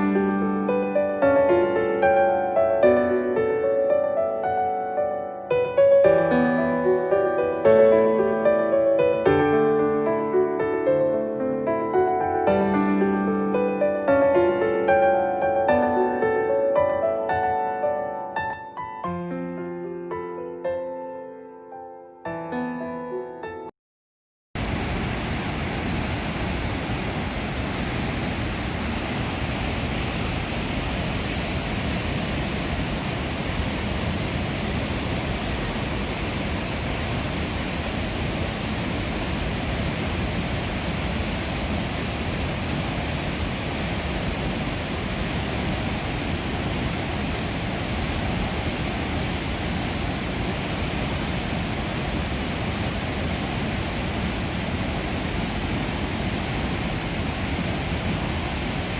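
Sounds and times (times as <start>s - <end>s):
waterfall rushing: 0.0s - 19.6s, 24.6s - 58.9s.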